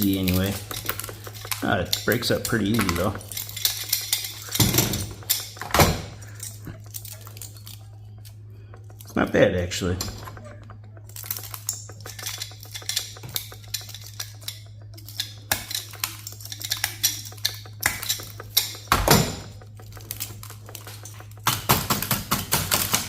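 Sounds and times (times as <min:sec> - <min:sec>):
circuit board crunching: 0:00.0 - 0:23.0
hand tools clicking and tapping: 0:00.0 - 0:23.0
steady low hum: 0:00.0 - 0:23.0.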